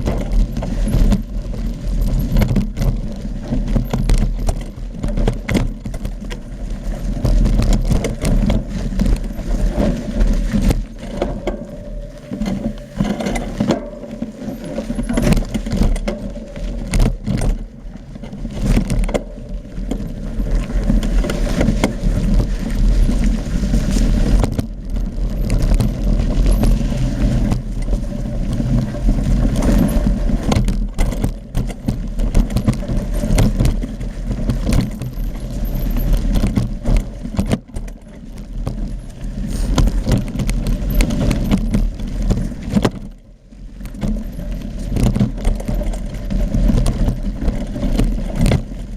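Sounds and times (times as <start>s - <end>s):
bike frame and chain rattling: 0.0s - 48.9s
wind rumble on microphone: 0.0s - 48.9s.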